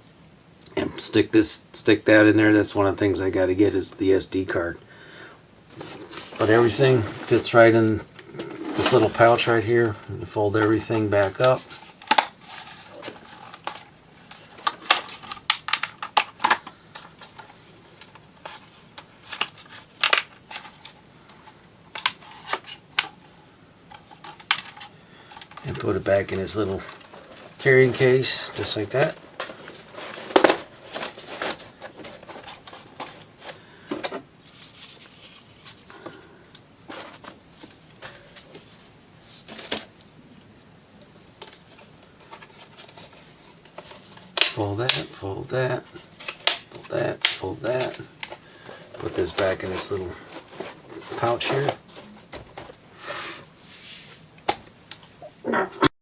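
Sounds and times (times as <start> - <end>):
handling rustles: 5.7 - 40.0, 41.4 - 52.9.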